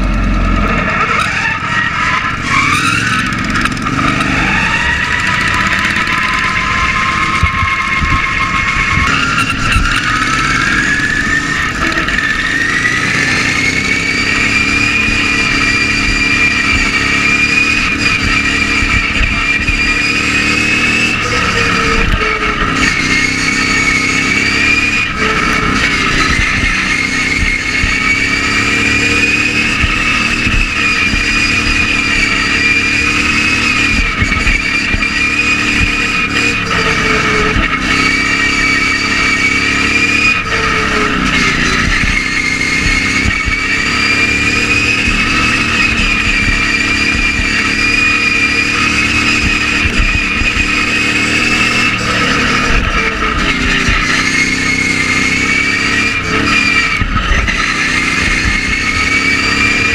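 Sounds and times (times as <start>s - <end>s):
lawn mower engine revving: 0.0s - 59.9s.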